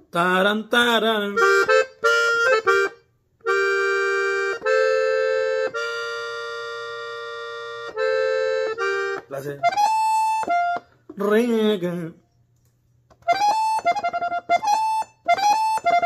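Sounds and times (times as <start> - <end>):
button accordion playing: 0.9 - 11.8, 13.1 - 16.0.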